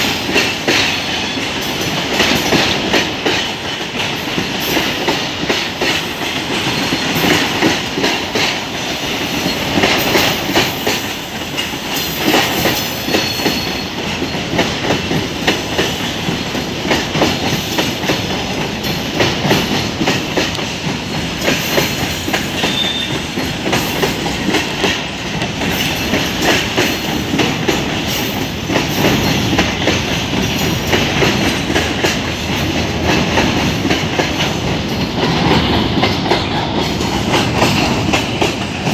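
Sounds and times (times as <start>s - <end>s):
freight train wheels clicking: 0.0s - 38.9s.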